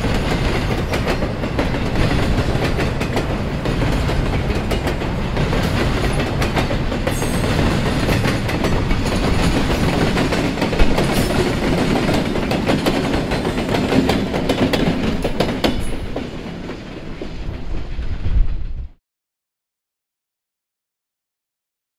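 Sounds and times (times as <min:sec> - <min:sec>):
train wheels clicking over rail joints: 0:00.0 - 0:18.7
diesel locomotive passing: 0:00.0 - 0:18.9.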